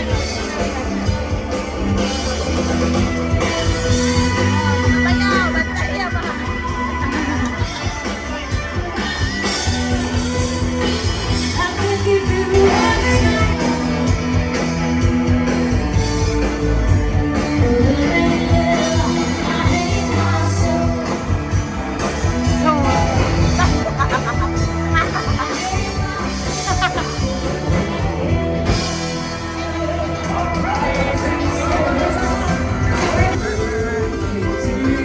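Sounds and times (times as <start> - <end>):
pop-rock song with singer: 0.0 - 35.0.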